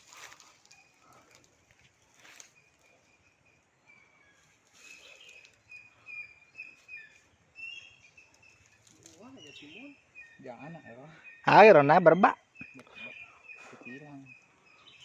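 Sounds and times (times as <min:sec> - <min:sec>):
faint outdoor background noise: 0:00.0 - 0:15.0
bird chirping: 0:00.1 - 0:15.0.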